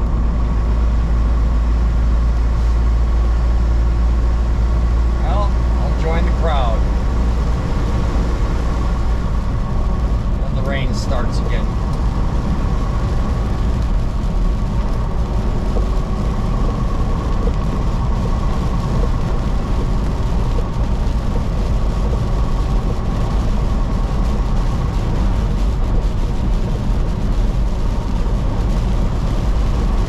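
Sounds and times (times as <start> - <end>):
truck diesel engine rumble: 0.0 - 30.0
tyres on road: 0.0 - 30.0.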